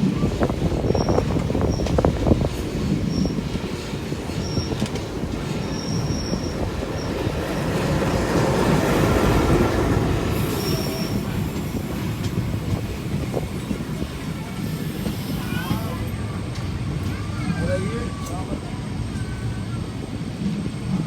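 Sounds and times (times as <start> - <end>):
train rolling on rails: 0.0 - 21.0.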